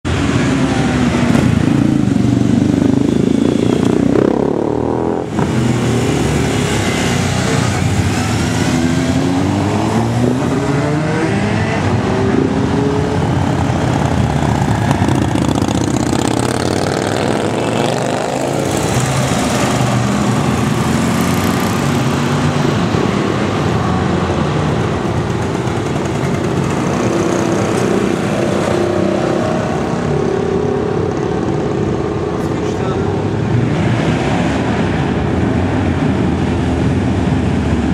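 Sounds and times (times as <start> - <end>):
motorcycles riding past: 0.1 - 37.9.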